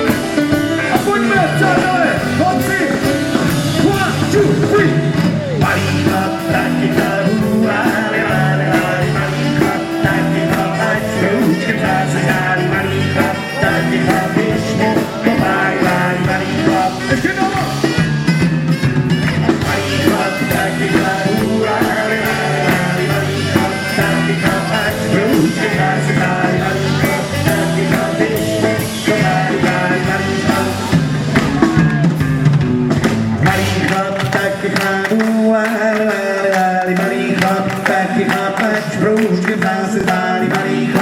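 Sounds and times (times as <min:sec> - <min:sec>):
drum kit beat: 0:00.0 - 0:41.0
live rock band playing: 0:00.0 - 0:41.0.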